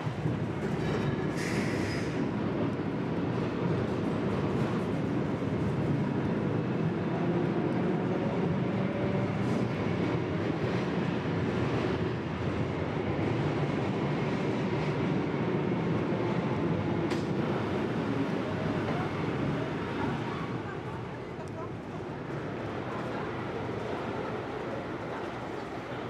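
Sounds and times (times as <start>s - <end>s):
tram running along track: 0.0s - 26.0s.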